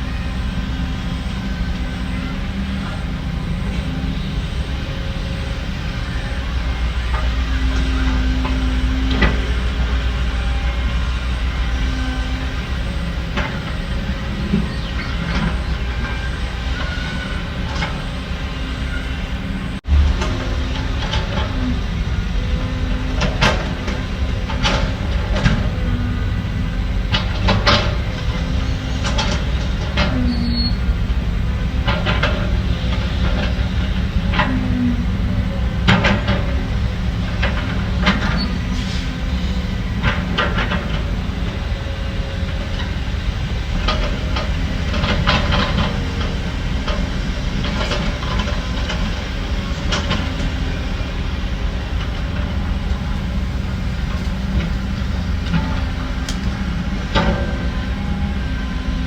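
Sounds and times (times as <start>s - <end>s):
heavy diesel machinery rumbling: 0.0s - 59.0s.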